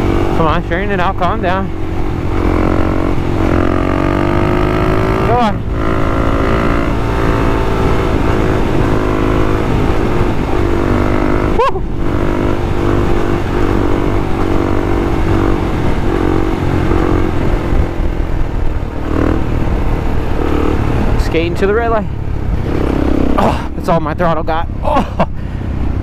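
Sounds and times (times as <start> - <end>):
low wind rumble: 0.0 - 26.0
motorcycle engine revving: 0.0 - 26.0.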